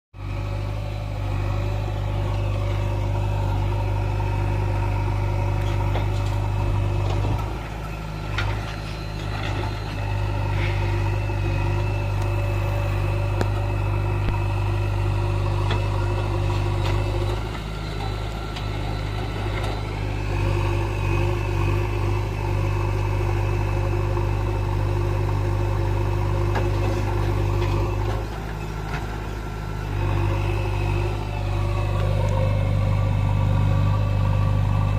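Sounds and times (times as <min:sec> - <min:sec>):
diesel backhoe engine running: 0:00.2 - 0:34.9.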